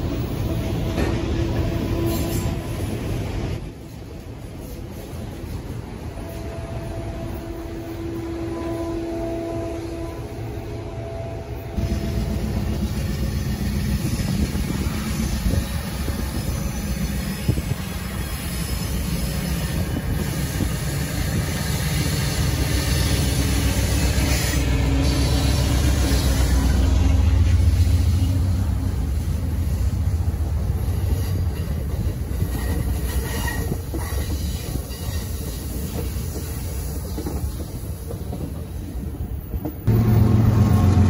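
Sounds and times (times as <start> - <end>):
diesel locomotive engine rumble: 0.0 - 41.0
freight train rolling past: 0.0 - 41.0.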